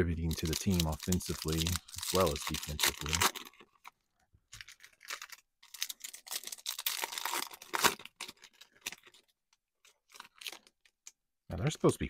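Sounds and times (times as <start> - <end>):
foil wrapper crinkling: 0.2 - 11.2
foil wrapper tearing: 0.3 - 3.9, 4.6 - 11.1.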